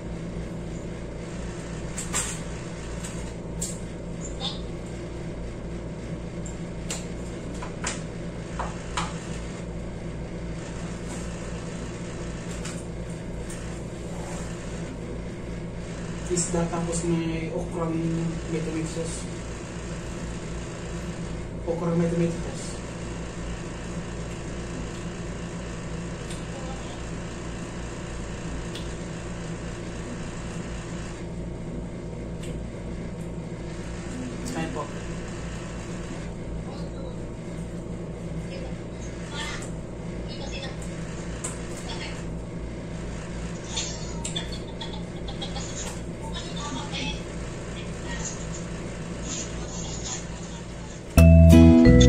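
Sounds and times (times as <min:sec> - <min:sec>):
steady low hum: 0:00.0 - 0:43.6.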